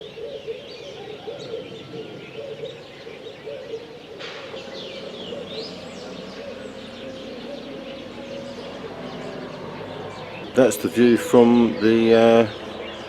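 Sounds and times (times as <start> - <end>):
birds chirping and twittering: 0.0 - 13.0
low wavering bird call: 0.0 - 13.0.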